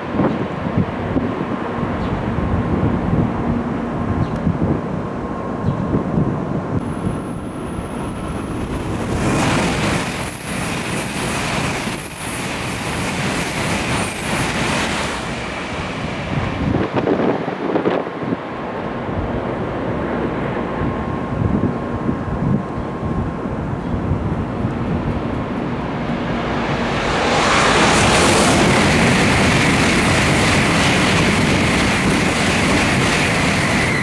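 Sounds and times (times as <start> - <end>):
train rushing rumble: 0.0 - 34.0.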